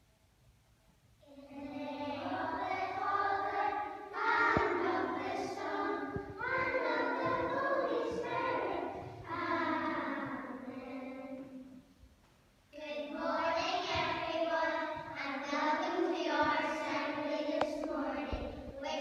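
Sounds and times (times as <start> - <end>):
children's choir singing: 1.2 - 11.8, 12.8 - 19.0.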